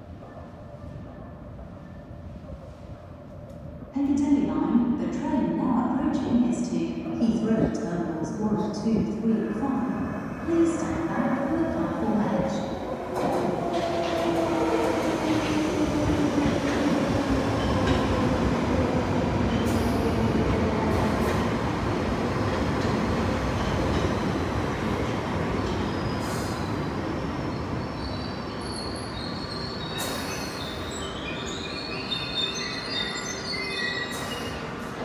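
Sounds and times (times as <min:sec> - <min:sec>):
train rumbling into platform: 0:00.0 - 0:35.0.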